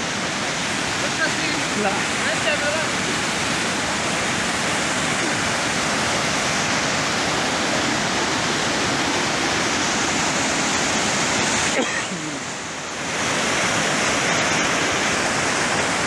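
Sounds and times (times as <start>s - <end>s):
waterfall crashing: 0.0s - 16.0s.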